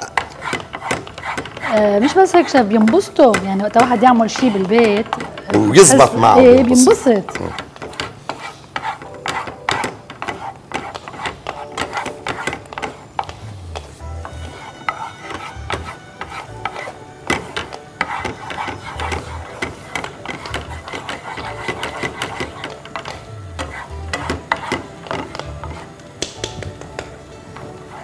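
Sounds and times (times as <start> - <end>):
faint background music: 0.0 - 28.0
wooden spatula scraping frying pan: 0.0 - 28.0.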